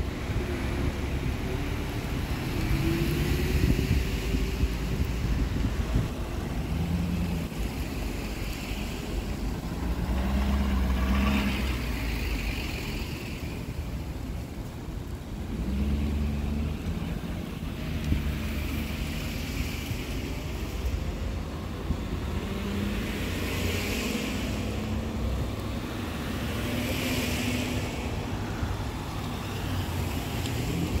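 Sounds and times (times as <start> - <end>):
vehicle engines rumbling: 0.0 - 31.0
tyre hiss on wet road: 0.1 - 31.0.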